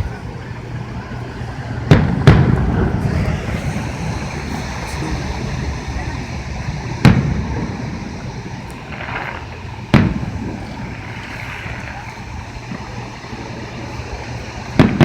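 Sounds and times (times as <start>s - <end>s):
fireworks bangs: 0.0s - 15.0s
low background rumble: 0.0s - 15.0s.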